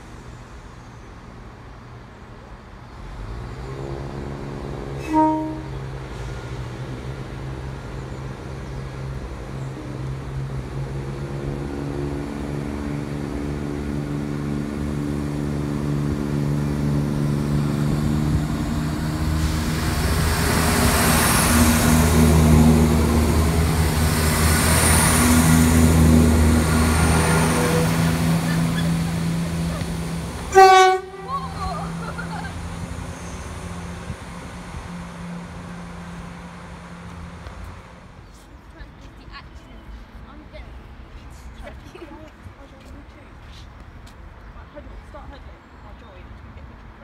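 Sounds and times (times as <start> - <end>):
train diesel engines droning: 0.0 - 47.0
wheel and rail rumble: 0.0 - 47.0.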